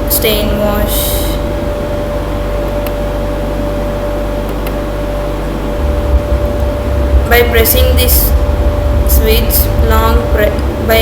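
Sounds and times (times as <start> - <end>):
constant mid-pitched tone: 0.0 - 11.0
electrical hum and hiss: 0.0 - 11.0.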